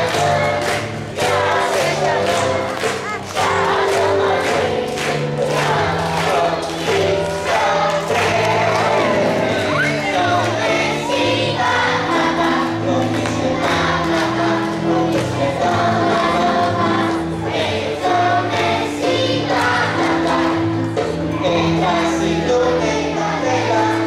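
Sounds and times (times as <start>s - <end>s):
children singing: 0.0s - 24.0s
instrumental accompaniment: 0.0s - 24.0s.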